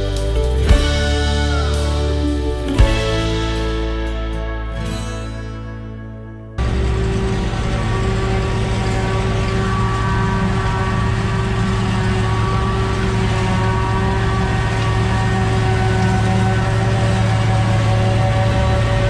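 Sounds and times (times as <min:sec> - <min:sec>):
large diesel engine drone: 0:00.0 - 0:19.0.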